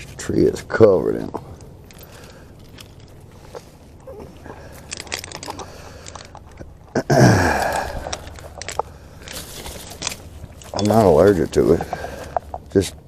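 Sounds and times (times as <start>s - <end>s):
branches crackling and snapping: 1.3s - 13.0s.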